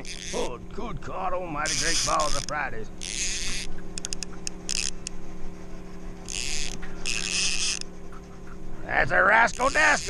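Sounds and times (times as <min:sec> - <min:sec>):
fishing reel buzzing: 0:00.0 - 0:00.6, 0:01.6 - 0:10.0
steady low hum: 0:00.0 - 0:10.0.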